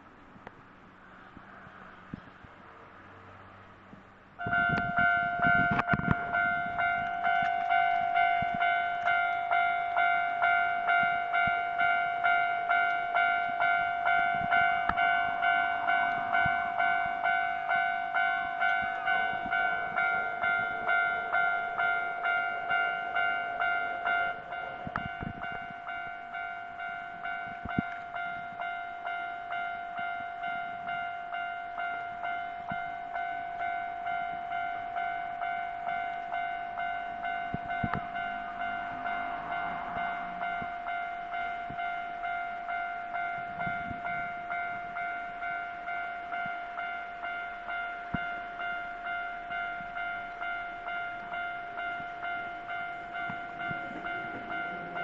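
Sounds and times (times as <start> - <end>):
level-crossing bell two-tone clang: 4.4 - 55.0.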